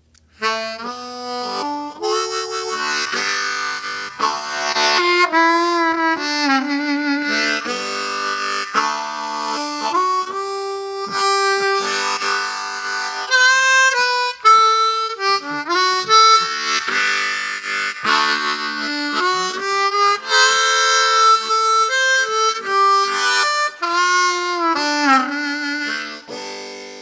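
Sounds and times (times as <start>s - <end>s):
harmonica playing chords: 0.3s - 27.0s.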